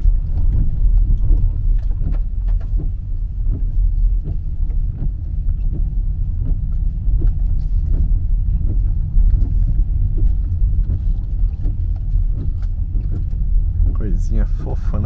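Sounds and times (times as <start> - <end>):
car driving low rumble: 0.0 - 15.0
car knocks and jolts: 0.0 - 15.0.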